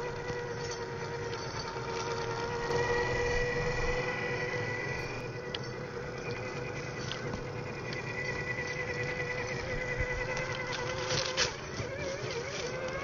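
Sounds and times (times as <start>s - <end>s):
toy car electric motor whining: 0.0s - 13.0s.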